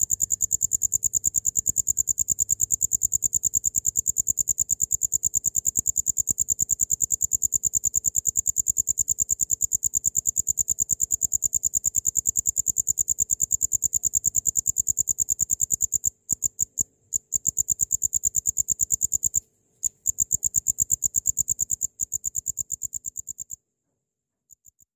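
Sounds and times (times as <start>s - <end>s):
cricket chirping: 0.0s - 23.6s, 24.4s - 24.9s.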